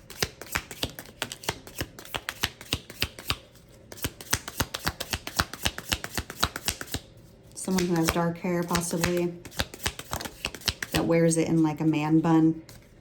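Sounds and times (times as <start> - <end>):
cards being shuffled: 0.0 - 11.1.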